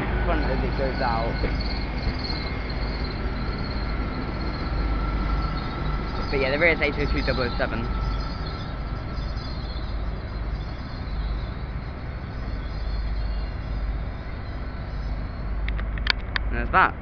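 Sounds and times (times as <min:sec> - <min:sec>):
diesel train engines rumbling: 0:00.0 - 0:17.0.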